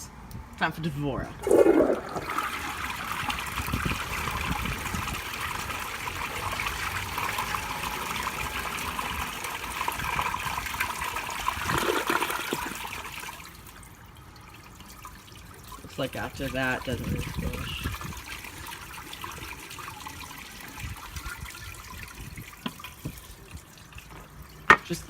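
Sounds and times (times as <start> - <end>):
toilet flushing: 1.4 - 25.0.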